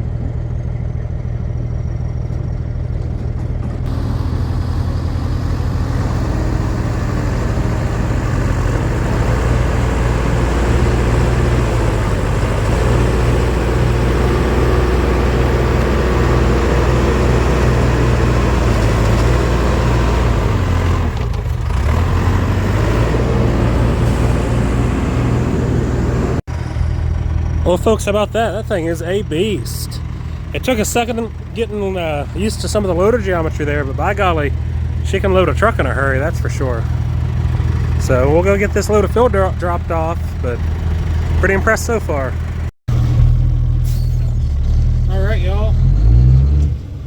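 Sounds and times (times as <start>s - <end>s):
backhoe diesel engine under load: 0.0s - 47.0s.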